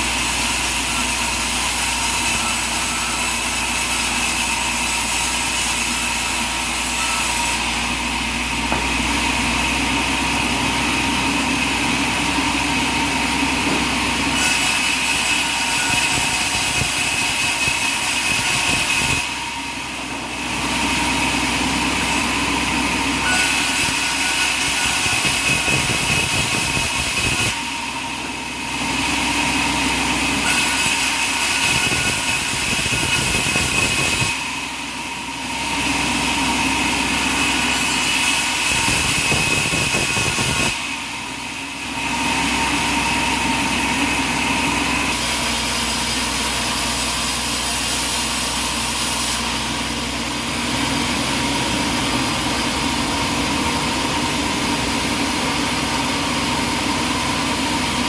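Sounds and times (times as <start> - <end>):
sawmill machinery drone and whine: 0.0 - 58.0.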